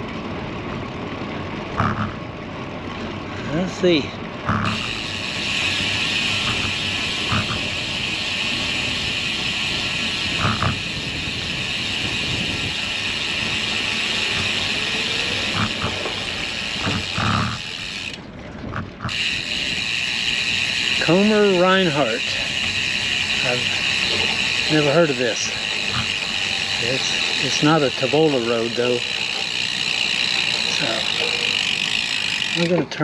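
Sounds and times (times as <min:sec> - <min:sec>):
tyre and road noise: 0:00.0 - 0:33.0
bicycle freewheel ticking: 0:03.7 - 0:33.0.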